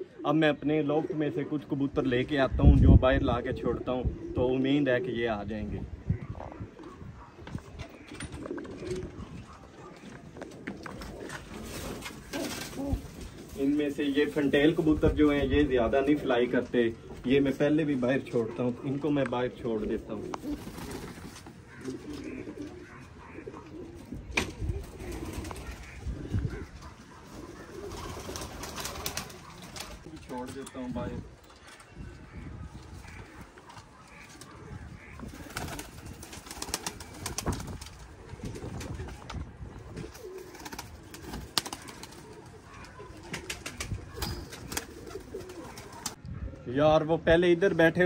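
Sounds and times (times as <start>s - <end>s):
pigeons cooing: 0.0s - 2.0s, 3.2s - 46.7s.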